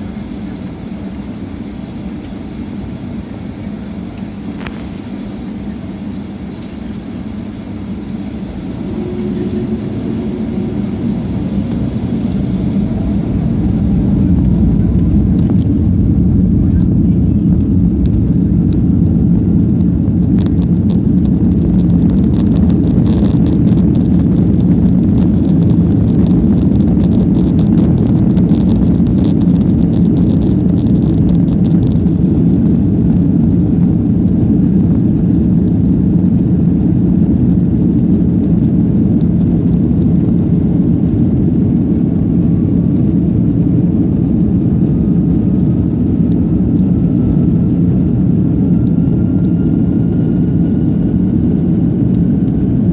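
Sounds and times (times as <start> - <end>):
faint rising whine: 0.0 - 52.9
jet engines rumbling: 0.0 - 52.9.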